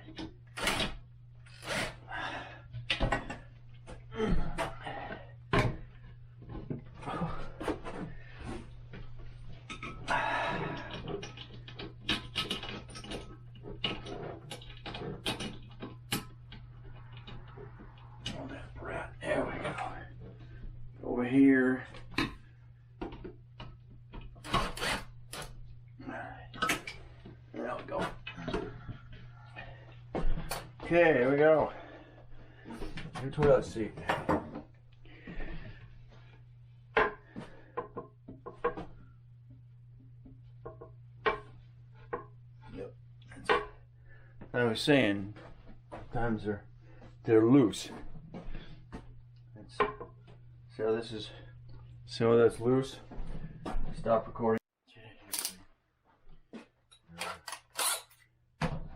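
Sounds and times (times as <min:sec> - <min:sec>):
steady low hum: 0:00.0 - 0:55.6.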